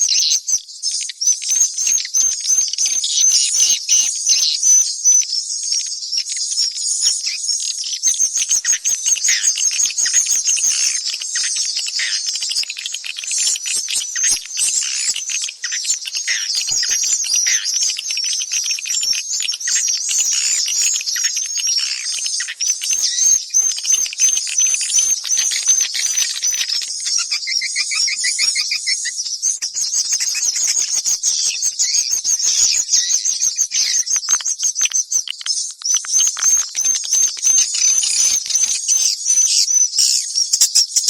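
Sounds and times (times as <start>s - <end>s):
swiftlets twittering and chirping: 0.0s - 41.0s.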